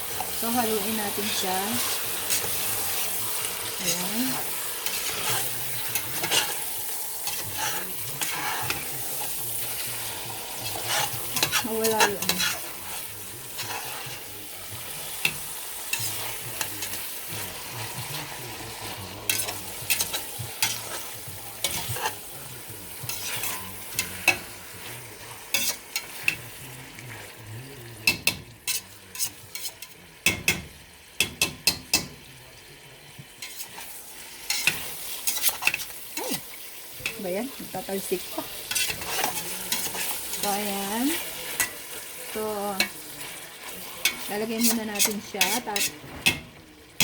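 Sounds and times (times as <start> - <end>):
utensil scraping a pan: 0.0 - 27.4, 28.1 - 30.0, 33.4 - 46.6
chicken sizzling in a pan: 0.0 - 47.0.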